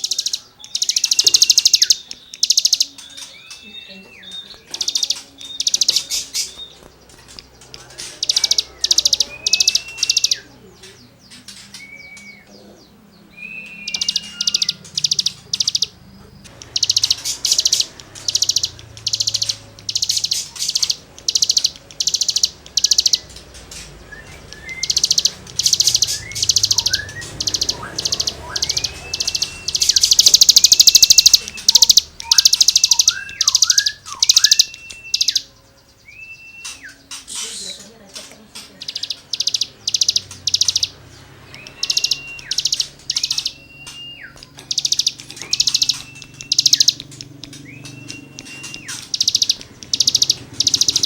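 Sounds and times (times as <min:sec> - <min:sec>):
songbird whistled notes: 0:00.0 - 0:37.9, 0:38.8 - 0:51.0
songbird harsh buzzy song: 0:00.0 - 0:51.0.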